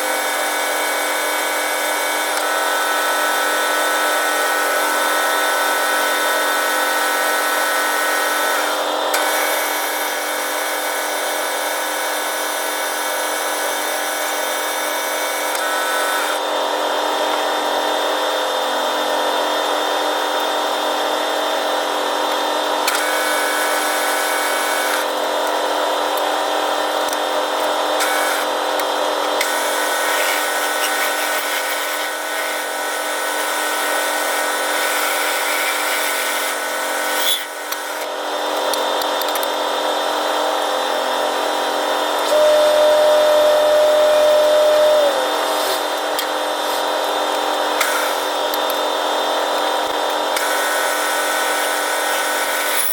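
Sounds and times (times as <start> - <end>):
metal lathe whining hum: 0.0 - 52.9.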